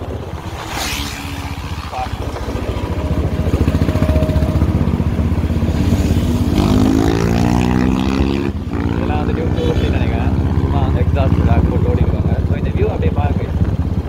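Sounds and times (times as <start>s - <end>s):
wind gust on microphone: 0.0s - 11.4s
motorcycle engine at speed: 0.0s - 14.0s
passing motorcycle engine: 0.0s - 14.0s.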